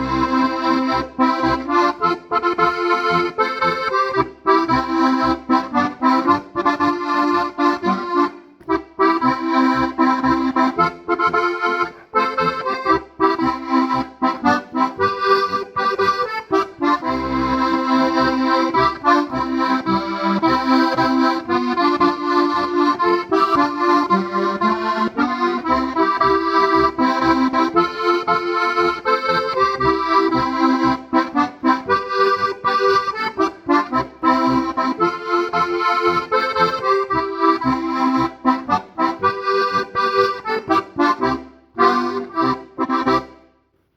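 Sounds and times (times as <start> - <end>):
button accordion folk melody: 0.0 - 43.9.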